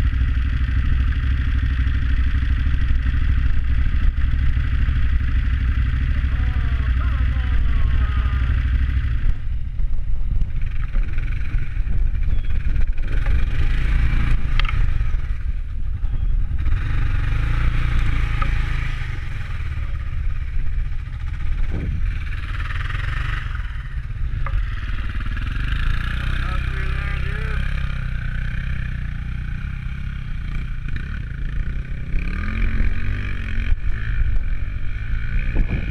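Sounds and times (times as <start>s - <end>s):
motorcycle engines idling: 0.0s - 35.9s.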